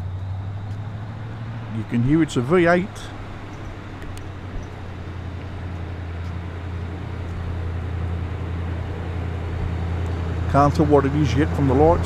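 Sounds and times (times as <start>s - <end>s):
car engine approaching: 0.0s - 12.0s.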